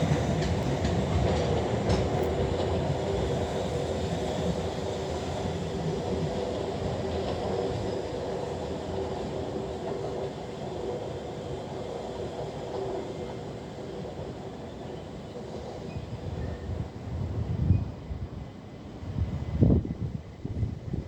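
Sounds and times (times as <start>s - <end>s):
electric train rumbling and humming: 0.0s - 21.0s.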